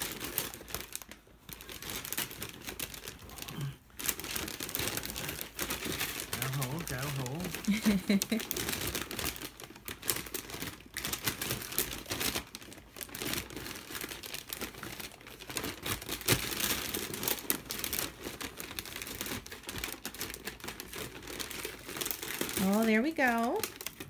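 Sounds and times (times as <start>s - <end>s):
wrapping paper crinkling and tearing: 0.0s - 24.0s.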